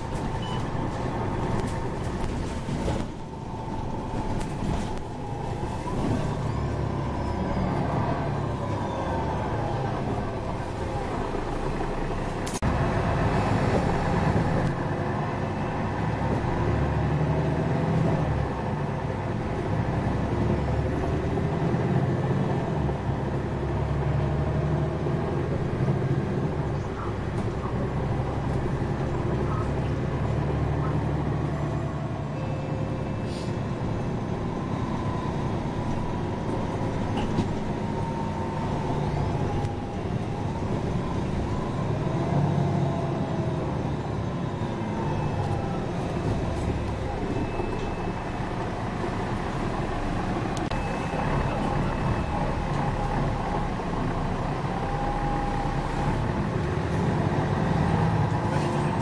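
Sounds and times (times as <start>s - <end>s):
bus engine hum: 0.0s - 59.0s
road noise: 0.0s - 59.0s.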